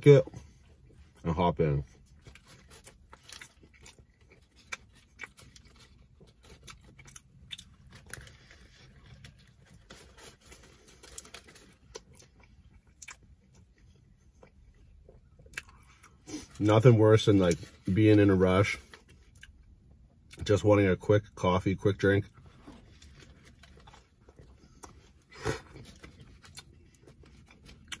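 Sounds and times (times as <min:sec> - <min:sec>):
man chewing sandwich: 0:00.2 - 0:20.4, 0:22.3 - 0:28.0.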